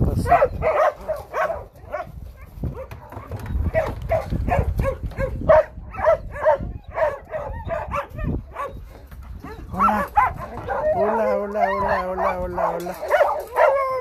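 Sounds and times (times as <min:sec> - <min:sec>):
dogs barking and yipping: 0:00.1 - 0:14.0.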